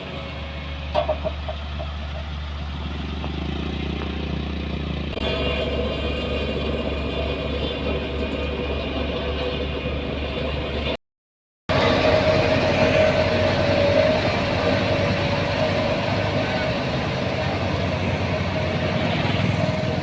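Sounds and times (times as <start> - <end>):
construction machine engine running: 0.0 - 11.0, 11.7 - 20.0.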